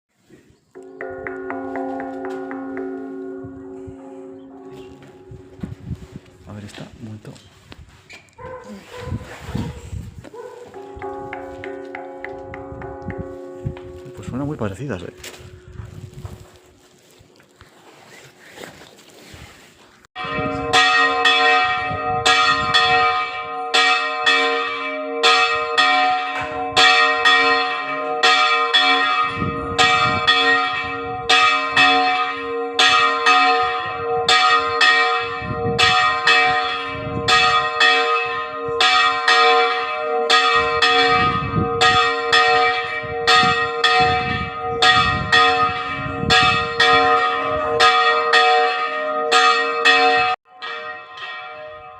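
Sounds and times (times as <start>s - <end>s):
church bells pealing: 0.8s - 7.0s, 10.6s - 16.8s, 20.2s - 51.9s.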